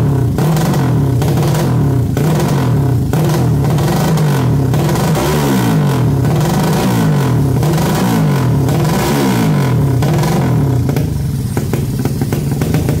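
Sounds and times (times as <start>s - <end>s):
engine revving in blips: 0.0s - 13.0s.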